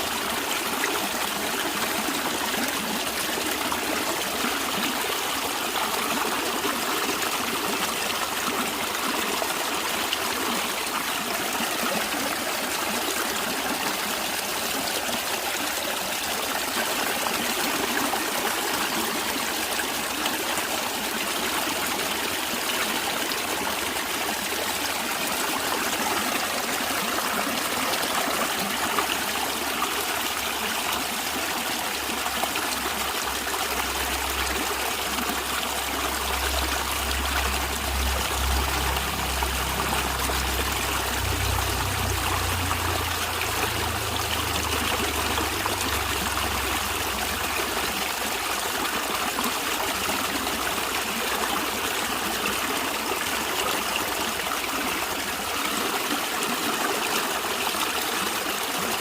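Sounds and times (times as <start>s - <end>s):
stream trickling over rocks: 0.0s - 59.0s.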